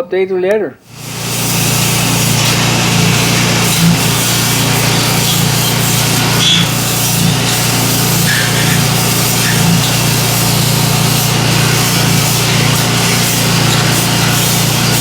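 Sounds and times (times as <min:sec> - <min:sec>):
electric sander sanding: 0:00.8 - 0:15.0
low motor hum: 0:00.8 - 0:15.0.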